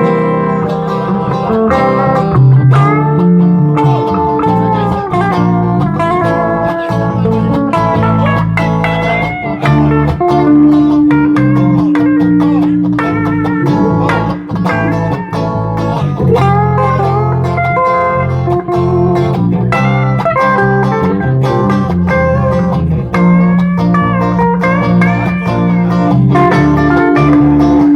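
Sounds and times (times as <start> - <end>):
bass line: 0.0 - 27.9
electric guitar: 0.0 - 27.9
drum beats: 3.8 - 27.9.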